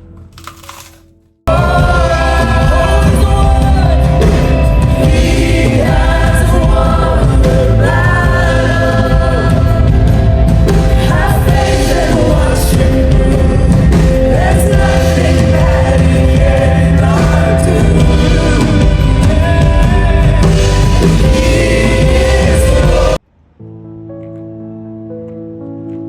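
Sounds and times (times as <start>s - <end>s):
song with singing over band: 1.5s - 23.2s.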